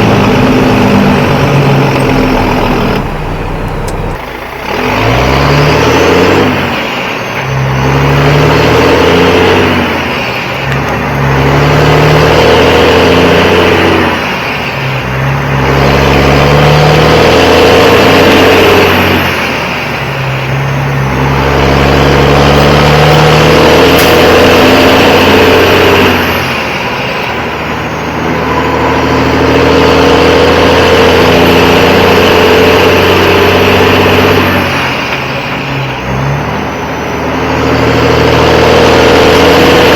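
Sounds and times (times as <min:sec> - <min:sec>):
diesel truck accelerating: 0:00.0 - 0:39.9.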